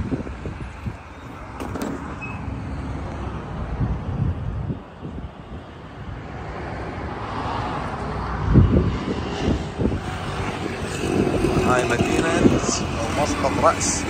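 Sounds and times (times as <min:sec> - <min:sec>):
distant traffic: 0:00.0 - 0:14.0
wind buffeting microphone: 0:00.0 - 0:14.0.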